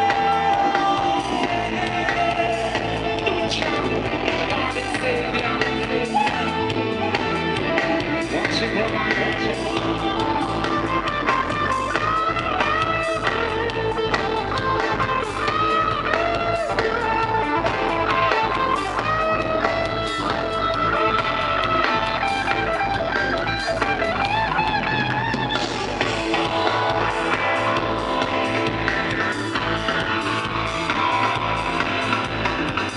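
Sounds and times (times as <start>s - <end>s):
electric guitar lines: 0.0s - 32.9s
live reggae band playing: 0.0s - 32.9s.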